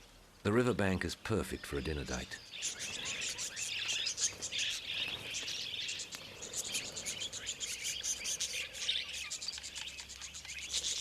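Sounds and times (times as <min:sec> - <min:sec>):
budgerigars chattering: 0:00.5 - 0:11.0.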